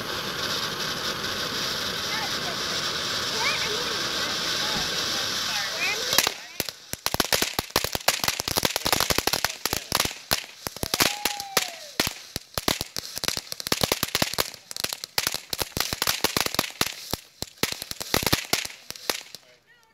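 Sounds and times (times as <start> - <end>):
firework crackling sparks: 0.0 - 19.9.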